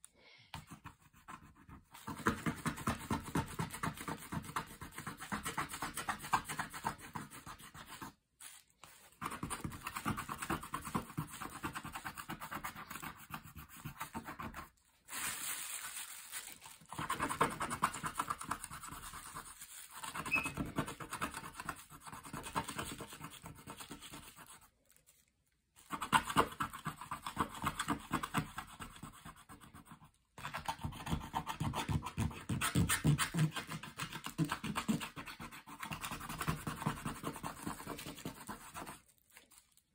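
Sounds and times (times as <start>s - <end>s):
tool scratching coated paper: 0.6s - 14.8s, 16.9s - 24.7s, 25.8s - 39.2s.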